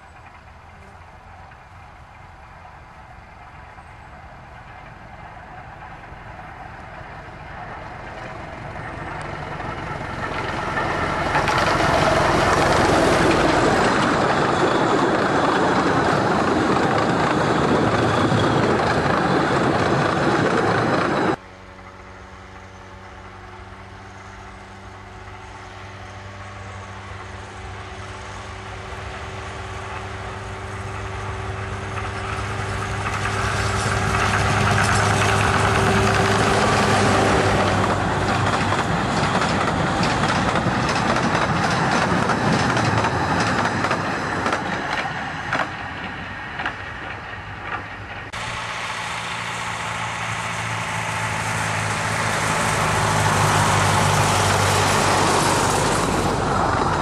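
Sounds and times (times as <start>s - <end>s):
diesel locomotive engine humming: 0.0s - 57.0s
train wheels and carriages rumbling: 0.0s - 57.0s.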